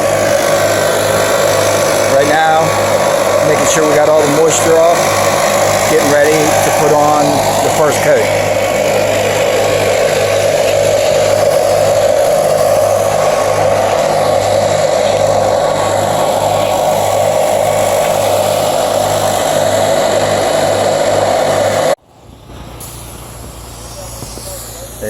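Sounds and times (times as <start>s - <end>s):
leaf blower running: 0.0s - 25.0s.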